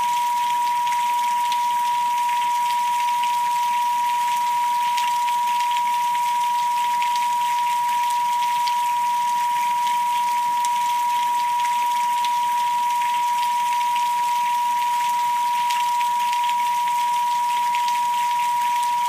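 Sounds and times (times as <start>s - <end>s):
rain patter: 0.0s - 19.0s
steady sine tone: 0.0s - 19.0s.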